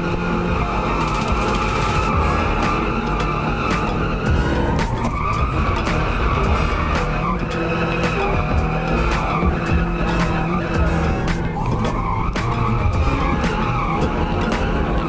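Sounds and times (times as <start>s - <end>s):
car engine revving high: 0.0s - 15.0s
music: 0.0s - 15.0s
tyres skidding: 0.0s - 15.0s.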